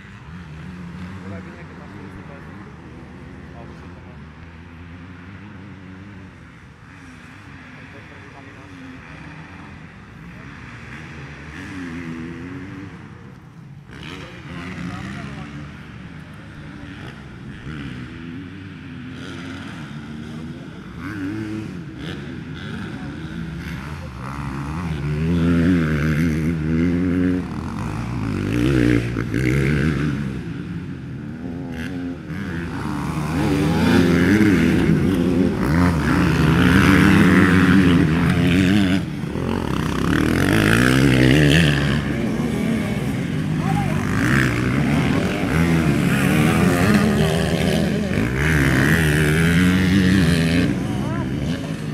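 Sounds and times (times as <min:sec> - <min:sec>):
dirt bikes revving: 0:00.0 - 0:51.9.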